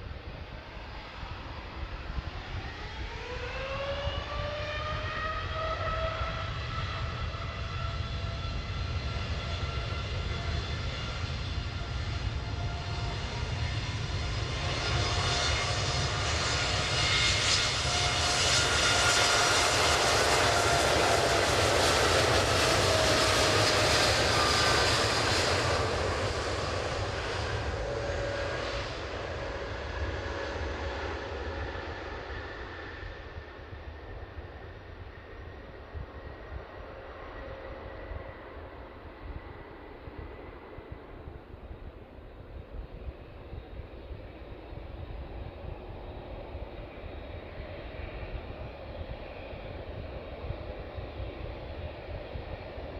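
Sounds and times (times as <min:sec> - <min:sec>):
jet engine roar: 0:00.0 - 0:52.9
jet engine whine: 0:00.0 - 0:52.9.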